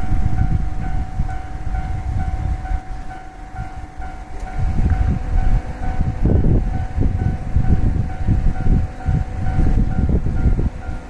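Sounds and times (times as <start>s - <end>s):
level-crossing warning bell: 0.0s - 11.0s
low gusty rumble: 0.0s - 11.0s.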